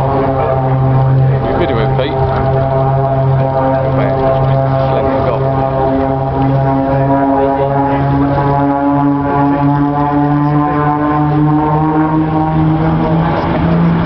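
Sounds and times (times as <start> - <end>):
propeller aircraft engines droning: 0.0 - 14.0.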